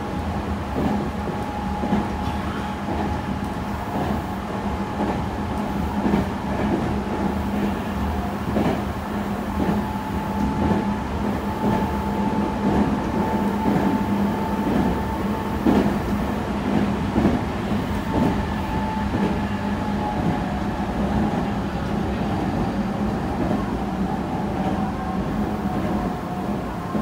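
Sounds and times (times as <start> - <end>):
train low hum: 0.0 - 27.0
train rumble: 0.0 - 27.0.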